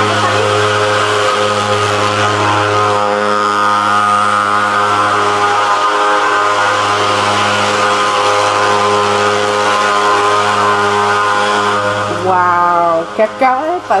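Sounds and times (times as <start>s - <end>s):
fogging machine droning: 0.0s - 14.0s.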